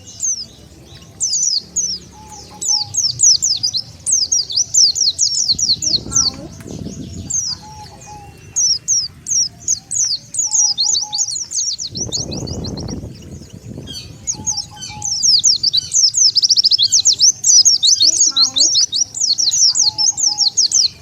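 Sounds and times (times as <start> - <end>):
bird trill: 0.0 - 21.0
birds chirping in a flock: 0.0 - 21.0
low rumbling noise: 0.0 - 21.0.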